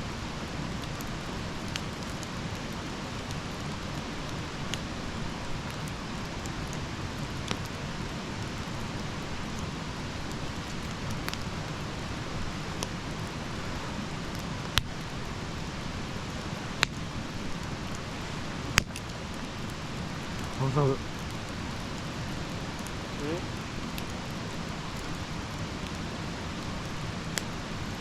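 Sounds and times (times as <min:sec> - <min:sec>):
campfire crackling with pops: 0:00.0 - 0:28.0.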